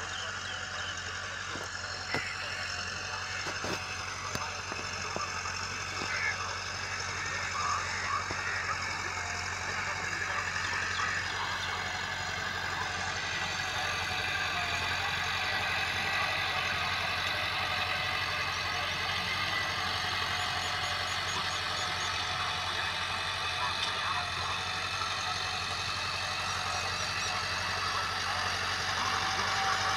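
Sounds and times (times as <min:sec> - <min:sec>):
tractor diesel engine under load: 0:00.0 - 0:29.9.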